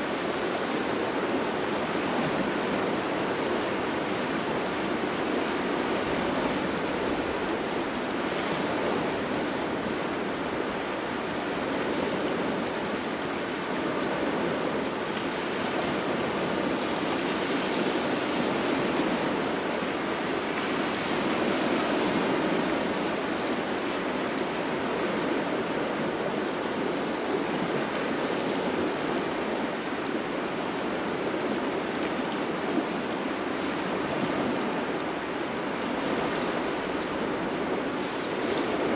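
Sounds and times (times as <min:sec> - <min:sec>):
small waves washing onto shore: 0:00.0 - 0:38.9.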